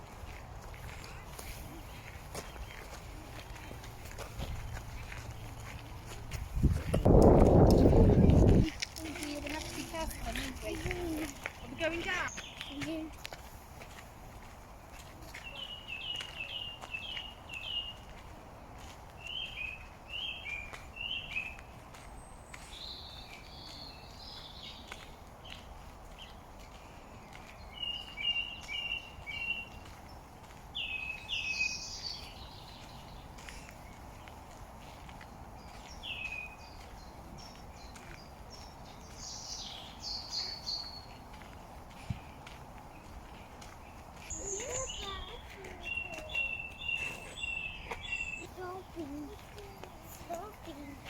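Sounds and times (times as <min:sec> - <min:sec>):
songbird singing: 0:00.1 - 0:13.5, 0:14.3 - 0:51.0.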